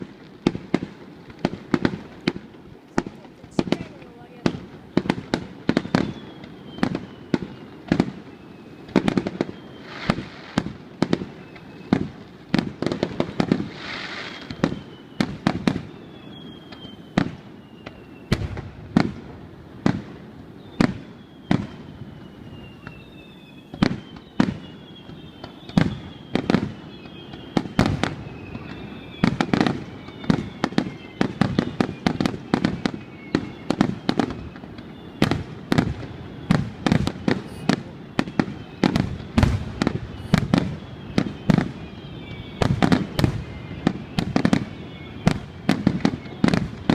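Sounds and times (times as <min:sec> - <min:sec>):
firework bangs: 0:00.0 - 0:46.9
firework whistles: 0:00.0 - 0:46.9.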